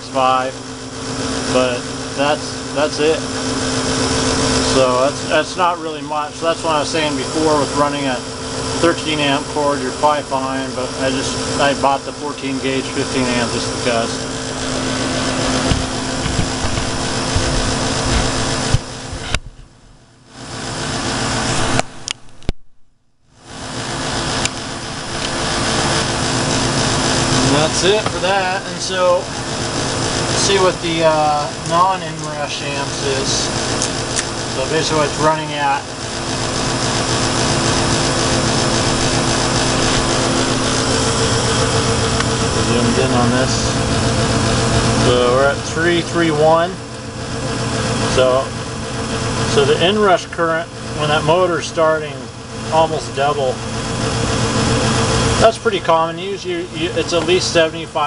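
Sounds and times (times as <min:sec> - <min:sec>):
furnace blower humming: 0:00.0 - 0:22.6, 0:23.3 - 0:58.0.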